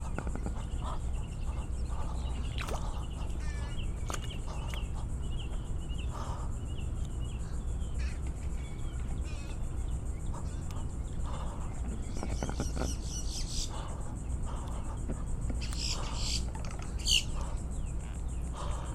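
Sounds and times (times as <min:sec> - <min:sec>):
ducks chirping: 0:00.0 - 0:18.9.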